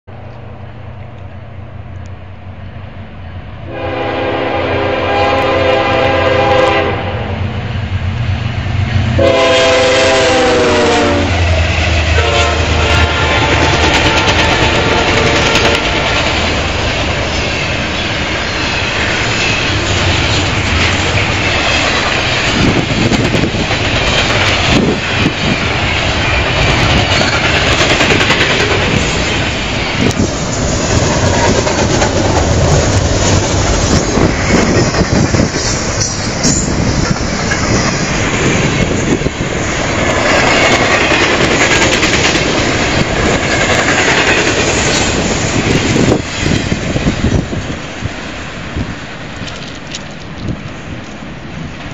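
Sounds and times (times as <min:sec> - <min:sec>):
train wheels rushing on rail: 0:00.1 - 0:51.9.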